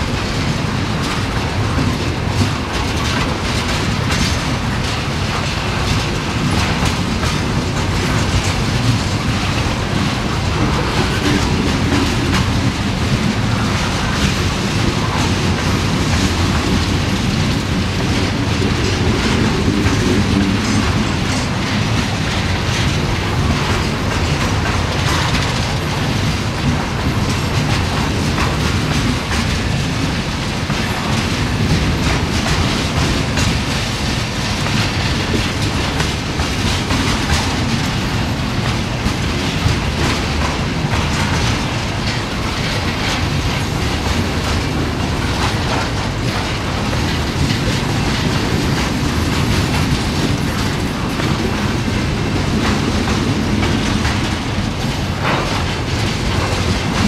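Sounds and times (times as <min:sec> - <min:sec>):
freight train rolling past: 0:00.0 - 0:57.0
wheels clicking over rail joints: 0:00.0 - 0:57.0.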